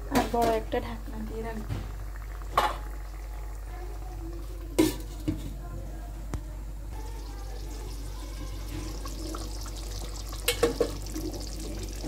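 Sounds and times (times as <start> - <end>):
curry bubbling in a pot: 0.0 - 5.2, 6.9 - 12.0.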